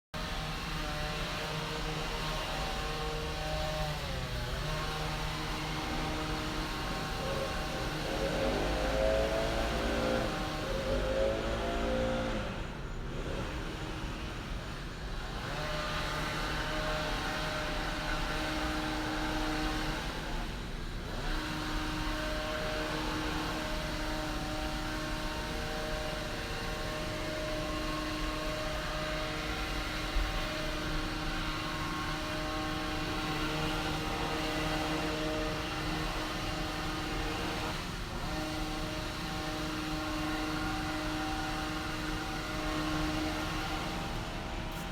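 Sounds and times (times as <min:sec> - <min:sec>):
chainsaw engine running: 0:00.2 - 0:44.9.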